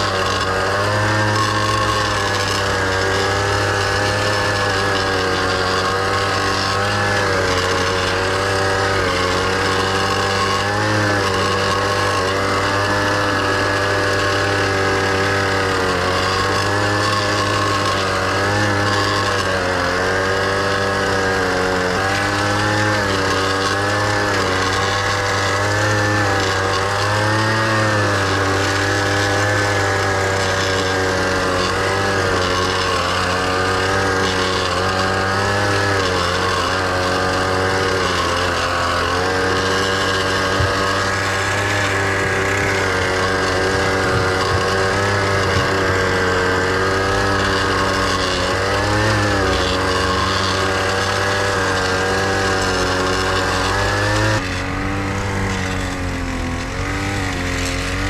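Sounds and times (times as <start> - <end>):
tiller engine running under load: 0.0 - 58.0.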